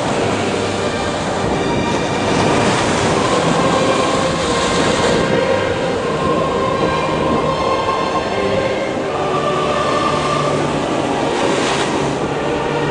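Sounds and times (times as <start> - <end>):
heavy surf roar: 0.0 - 12.9
storm wind: 0.0 - 12.9.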